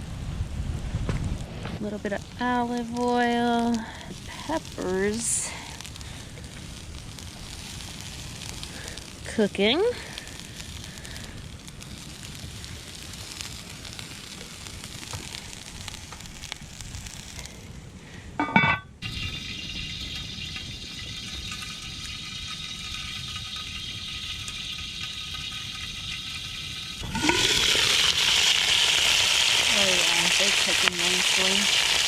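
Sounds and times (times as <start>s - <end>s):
peppers sizzling in pan: 1.8s - 32.0s.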